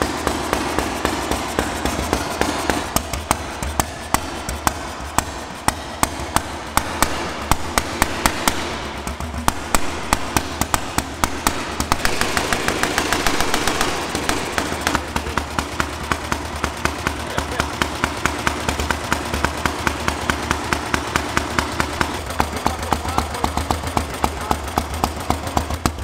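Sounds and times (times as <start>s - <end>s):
single-cylinder engine idling: 0.0s - 26.0s.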